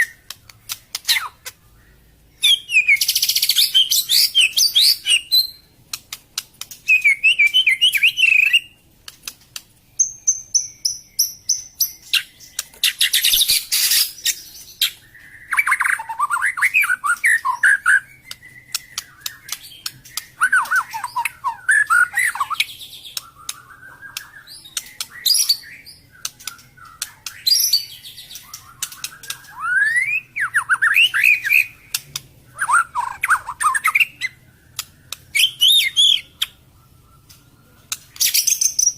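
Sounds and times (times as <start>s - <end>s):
sharp clicking bird notes: 0.0s - 1.6s, 2.8s - 38.9s
bird singing whistled phrases: 1.0s - 5.7s, 6.8s - 8.8s, 10.0s - 38.9s.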